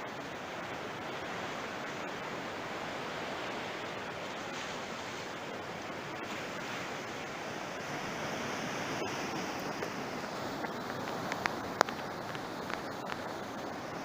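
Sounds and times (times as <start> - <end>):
sea surf washing on shore: 0.0 - 14.0.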